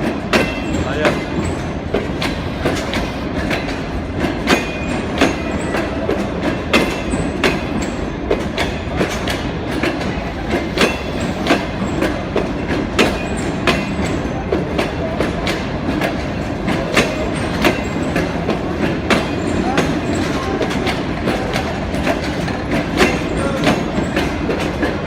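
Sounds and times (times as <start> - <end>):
train wheels rumbling on rails: 0.0 - 25.0
wheels clicking over rail joints: 3.4 - 25.0.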